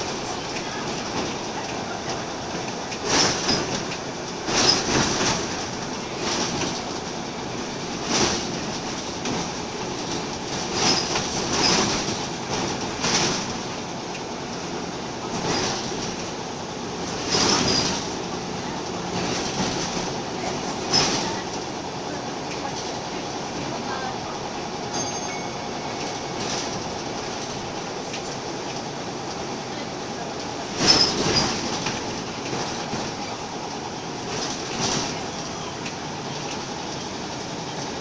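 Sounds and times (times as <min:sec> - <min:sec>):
bus body rattling: 0:00.0 - 0:38.0
bus engine and road noise: 0:00.0 - 0:38.0.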